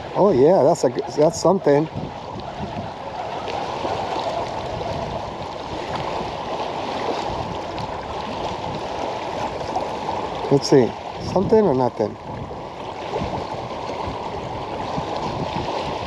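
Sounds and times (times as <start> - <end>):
choppy lake water: 0.0 - 16.0
wind buffeting microphone: 0.0 - 16.0.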